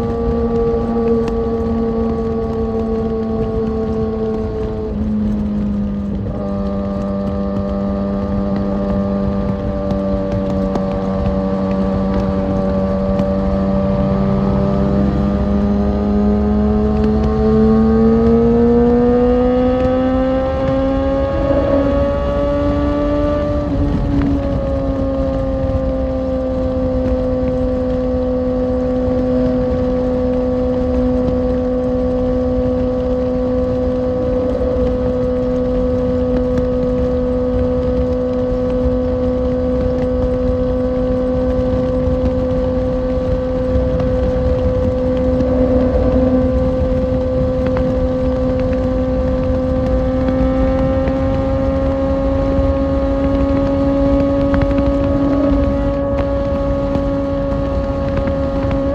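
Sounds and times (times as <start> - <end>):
motorcycle engine cruising: 0.0 - 58.9
wind and road rush: 0.0 - 58.9.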